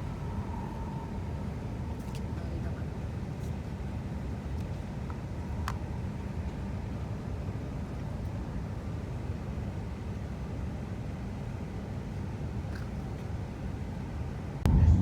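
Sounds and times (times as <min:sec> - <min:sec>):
train rumble inside passenger car: 0:00.0 - 0:15.0.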